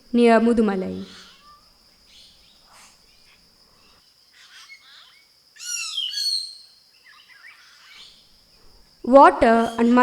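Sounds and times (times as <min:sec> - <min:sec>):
forest birds chirping: 0:00.0 - 0:10.0
high insect drone: 0:00.0 - 0:10.0.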